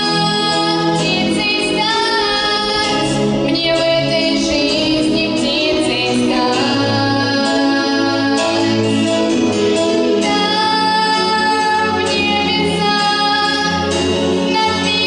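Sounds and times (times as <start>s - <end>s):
girl singing into a microphone: 0.0s - 8.8s, 10.2s - 13.8s, 14.5s - 15.0s
instrumental accompaniment: 0.0s - 15.0s.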